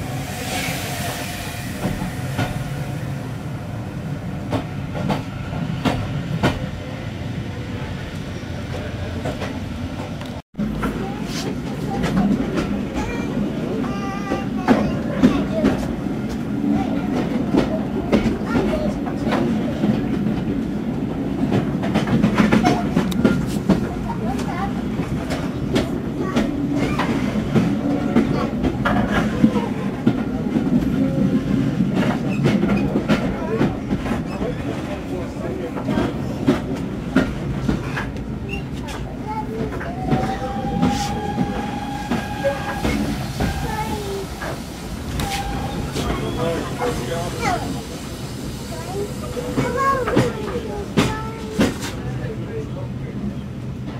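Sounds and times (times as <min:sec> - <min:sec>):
train carriage rumble: 0:00.0 - 0:53.9.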